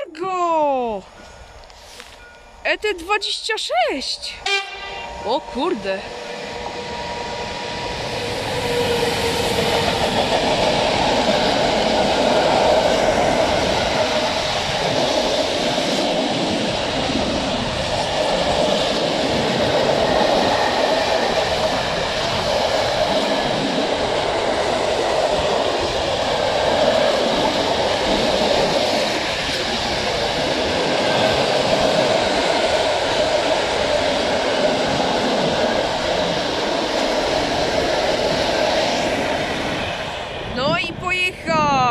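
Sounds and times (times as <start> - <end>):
freight train rolling past: 1.0 - 41.9.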